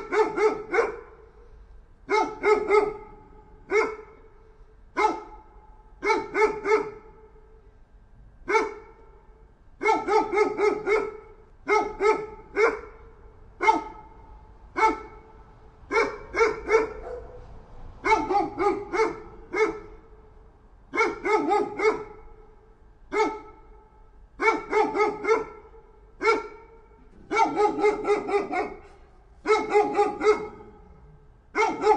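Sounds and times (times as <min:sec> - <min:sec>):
dog barking: 0:00.0 - 0:07.6, 0:08.4 - 0:20.3, 0:20.9 - 0:31.9.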